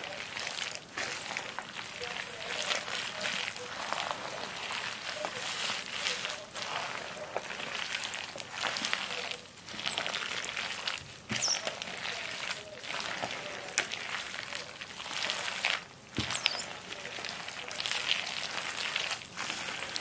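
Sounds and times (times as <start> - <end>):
wet squishing of mixing by hand: 0.0 - 20.0.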